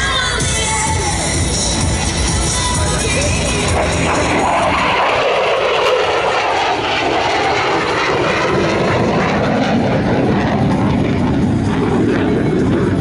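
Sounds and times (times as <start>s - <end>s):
fighter jet engine roaring: 0.0s - 13.0s.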